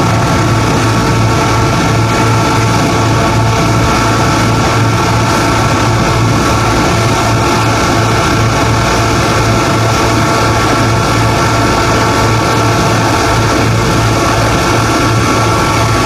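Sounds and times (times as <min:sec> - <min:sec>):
high whine: 0:00.0 - 0:16.0
locomotive engine running: 0:00.0 - 0:16.0.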